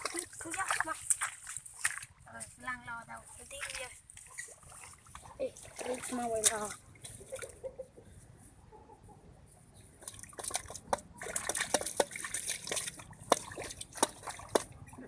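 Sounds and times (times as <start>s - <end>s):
water splashing and dripping: 0.0s - 7.8s, 10.0s - 15.0s.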